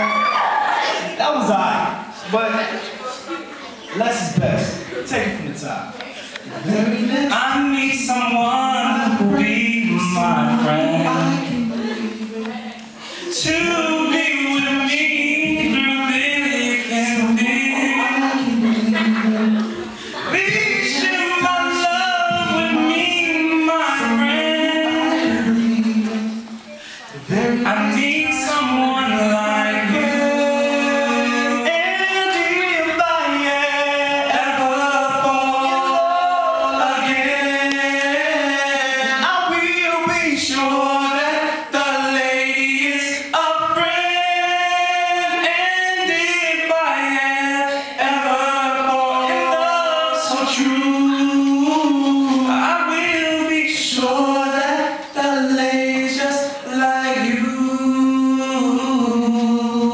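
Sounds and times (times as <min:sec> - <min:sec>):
male trio singing a cappella: 0:06.5 - 0:59.9.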